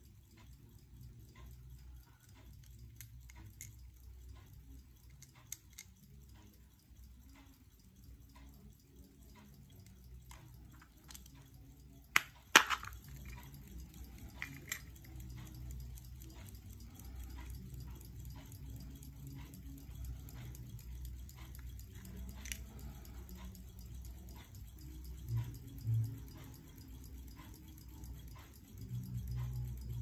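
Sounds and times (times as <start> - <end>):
pocket watch metallic clicks: 0.3 - 30.0.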